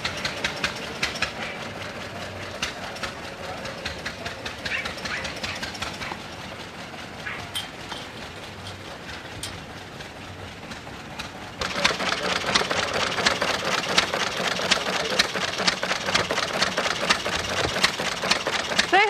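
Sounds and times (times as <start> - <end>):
stationary engine clattering: 0.0 - 19.0.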